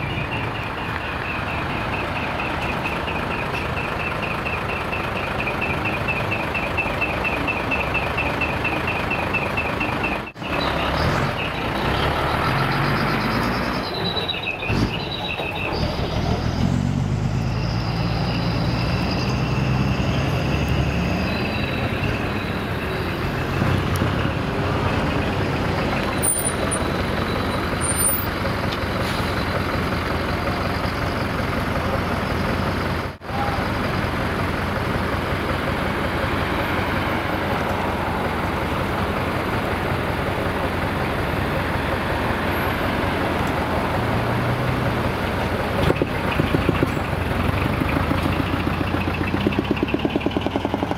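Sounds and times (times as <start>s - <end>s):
truck diesel engines running: 0.0s - 50.9s.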